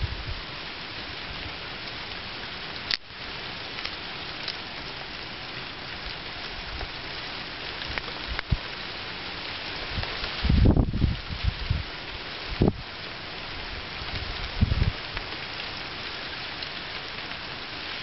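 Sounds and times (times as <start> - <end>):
freezing rain hissing: 0.0 - 18.0.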